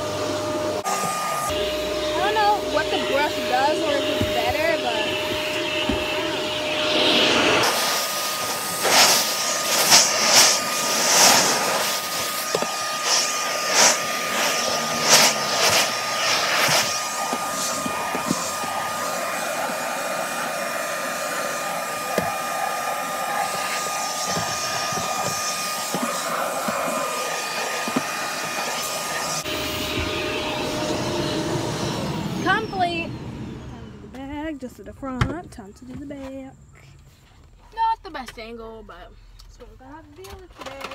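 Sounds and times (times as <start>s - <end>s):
nozzle suction bursts: 0.0s - 33.8s
vacuum cleaner running: 0.0s - 34.6s.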